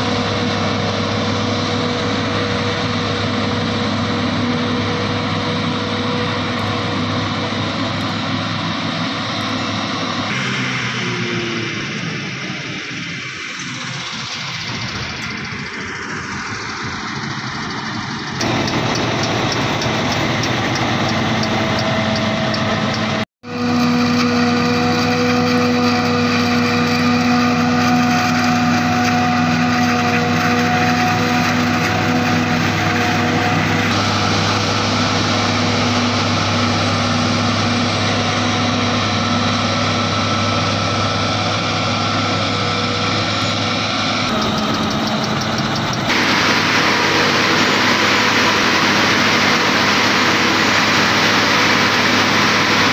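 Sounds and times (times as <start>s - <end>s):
heavy engine drone: 0.0s - 52.9s
machine whining tones: 0.0s - 52.9s.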